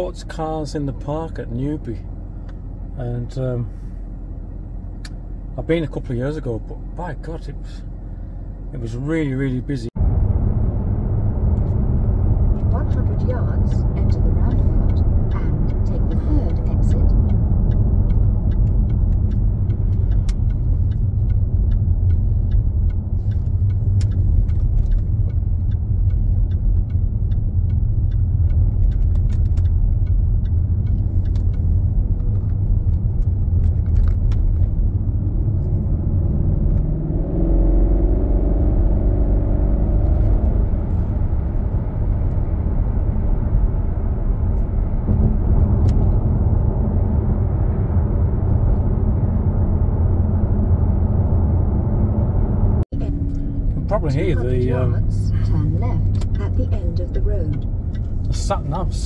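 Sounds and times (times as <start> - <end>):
turn indicator ticking: 0.0 - 3.4, 4.0 - 9.4, 11.6 - 49.3, 53.0 - 59.0
car engine and road noise: 0.0 - 59.0.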